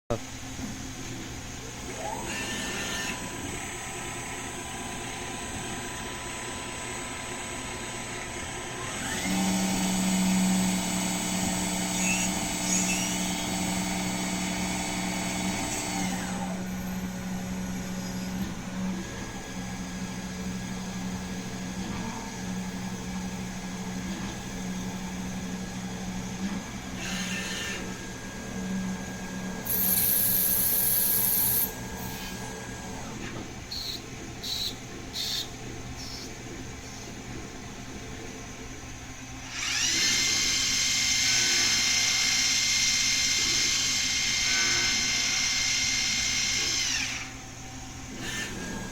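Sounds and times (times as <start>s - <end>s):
multi-tone machine hum: 1.3s - 48.9s
lathe machine whine: 1.7s - 36.9s, 39.4s - 48.9s.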